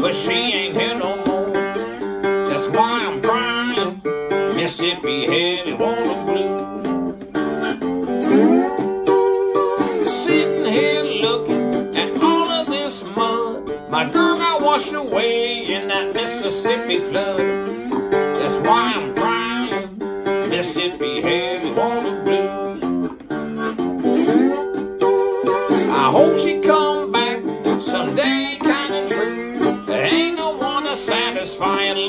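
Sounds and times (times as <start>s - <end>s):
man singing: 0.0s - 7.4s, 9.8s - 23.2s, 25.5s - 32.0s
acoustic guitar blues: 0.0s - 32.0s.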